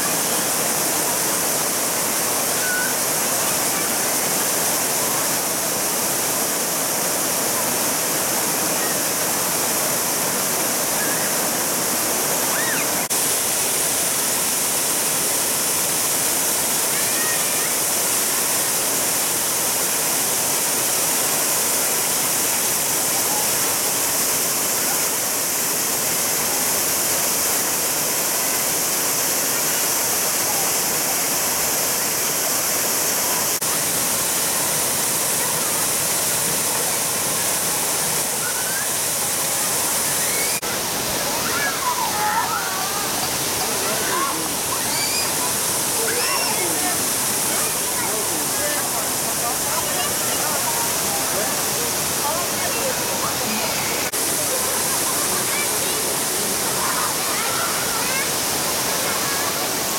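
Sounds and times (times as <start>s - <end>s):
waterfall rushing splash: 0.0s - 59.9s.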